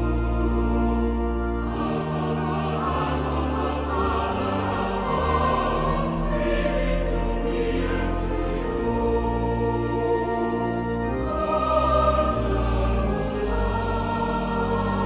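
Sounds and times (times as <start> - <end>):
choir-like chords: 0.0 - 15.0.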